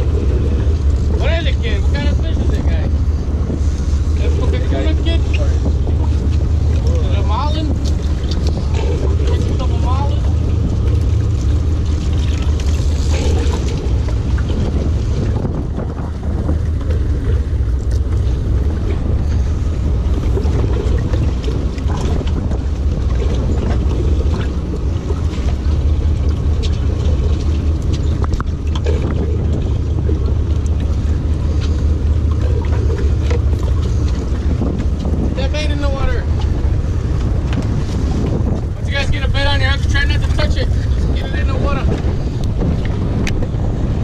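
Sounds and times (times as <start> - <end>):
boat diesel engine droning: 0.0 - 44.0.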